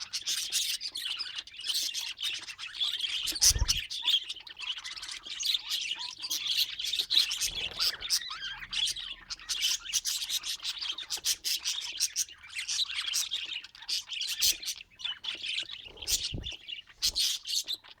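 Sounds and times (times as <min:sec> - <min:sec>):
budgerigars chirping and warbling: 0:00.0 - 0:18.0.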